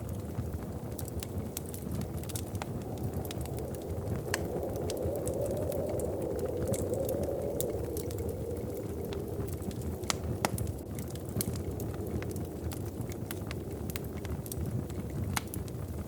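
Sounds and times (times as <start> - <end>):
hollow wind howl: 0.0 - 16.0
wood fire crackling and popping: 0.0 - 16.0.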